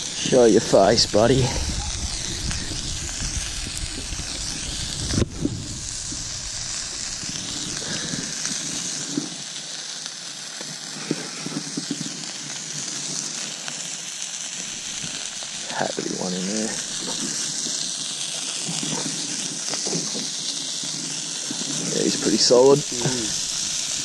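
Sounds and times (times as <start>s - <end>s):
sausages sizzling in a pan: 0.0s - 24.0s.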